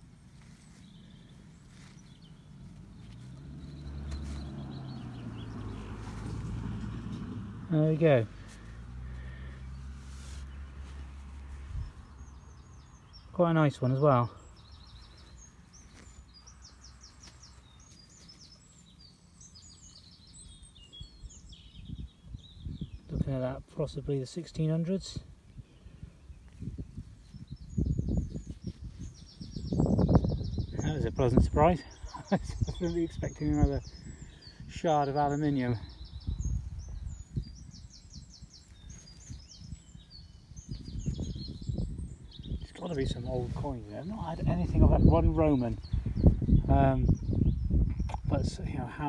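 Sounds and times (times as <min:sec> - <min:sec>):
songbird chirping and warbling: 0:00.0 - 0:49.0.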